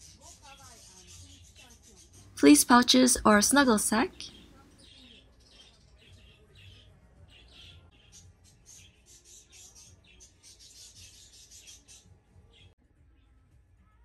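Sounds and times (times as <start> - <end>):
small birds chirping: 0.0 - 12.7.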